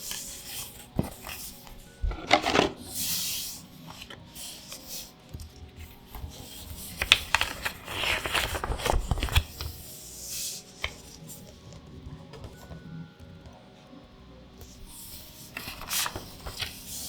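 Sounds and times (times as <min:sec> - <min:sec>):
hands handling card packaging: 0:00.0 - 0:13.7, 0:14.6 - 0:17.0.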